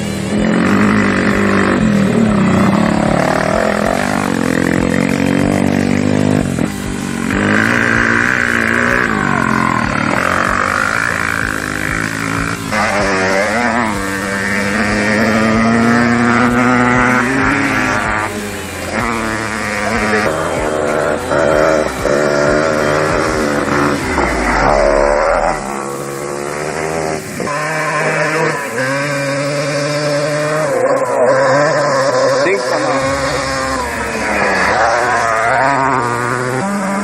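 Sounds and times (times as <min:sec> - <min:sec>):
race vehicle engines revving past: 0:00.0 - 0:37.0.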